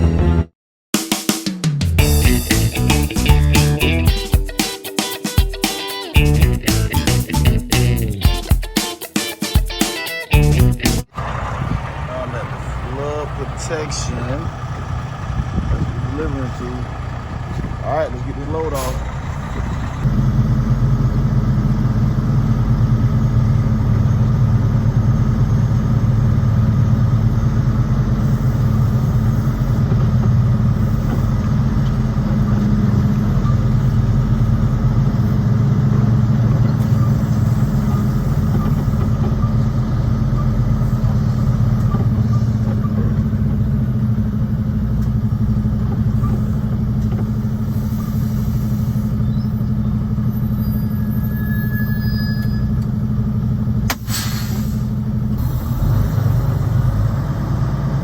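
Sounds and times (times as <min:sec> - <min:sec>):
large engine humming: 0:02.0 - 0:04.2, 0:06.2 - 0:08.2, 0:10.4 - 0:58.0.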